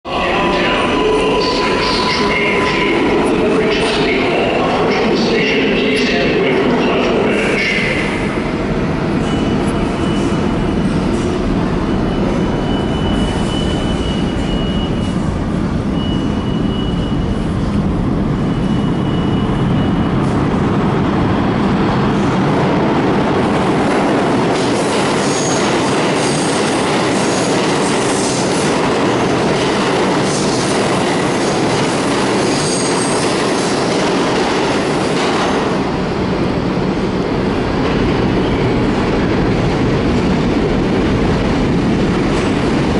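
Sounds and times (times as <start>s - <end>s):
subway train rumbling: 0.0s - 42.9s.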